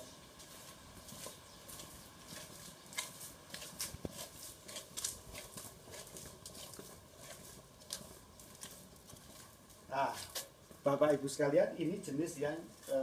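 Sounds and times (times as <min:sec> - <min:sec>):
footsteps on brick path: 0:00.0 - 0:13.0.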